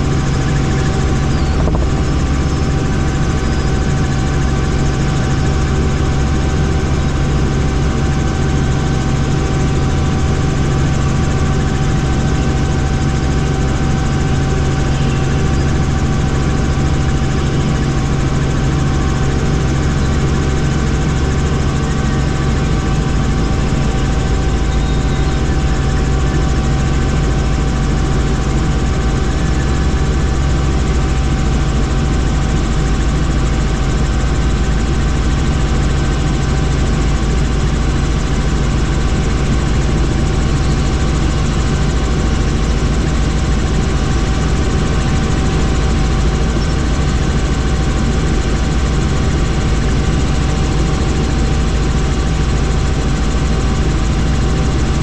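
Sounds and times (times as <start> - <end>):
helicopter turbine and rotor noise: 0.0 - 55.0.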